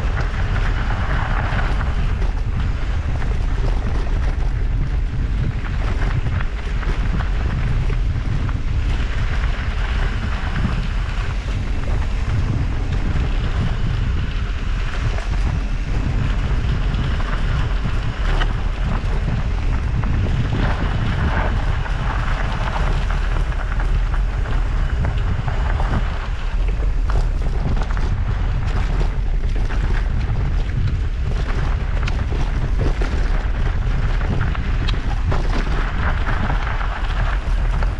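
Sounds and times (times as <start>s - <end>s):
bike tyres crunching on dirt: 0.0s - 37.9s
wind buffeting microphone: 0.0s - 37.9s.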